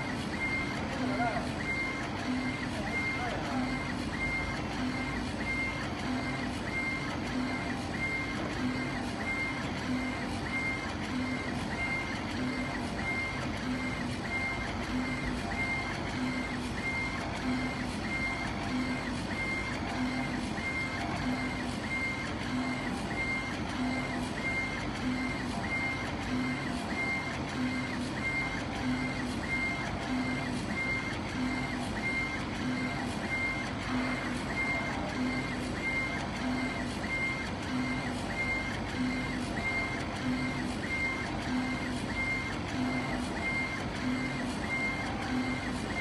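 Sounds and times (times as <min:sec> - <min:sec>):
laser engraver motors whining: 0:00.0 - 0:46.0.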